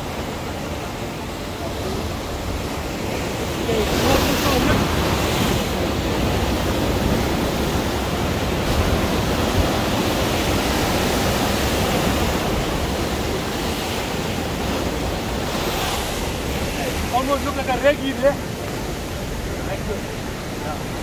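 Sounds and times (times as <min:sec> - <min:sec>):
ocean surf rushing: 0:00.0 - 0:21.0.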